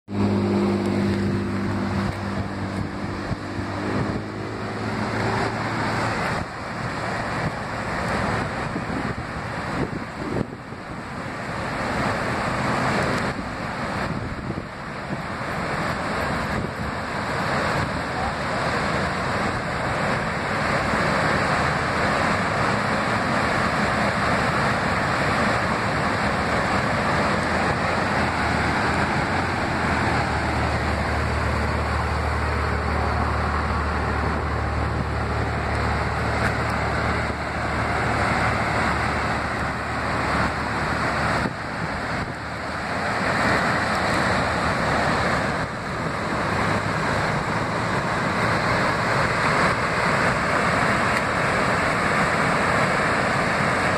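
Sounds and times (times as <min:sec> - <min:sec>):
rushing river: 0:00.1 - 0:53.9.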